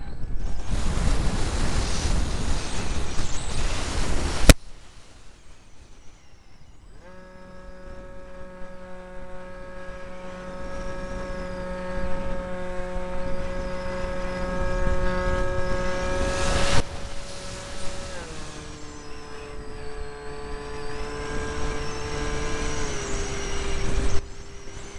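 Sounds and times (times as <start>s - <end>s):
wind rush on microphone: 0.0s - 4.6s, 7.0s - 24.9s
model plane motor whining: 0.3s - 24.9s.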